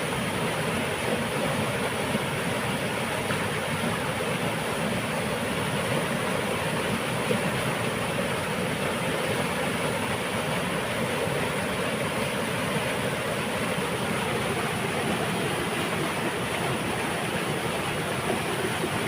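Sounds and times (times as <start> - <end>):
water rushing through dam: 0.0 - 19.0.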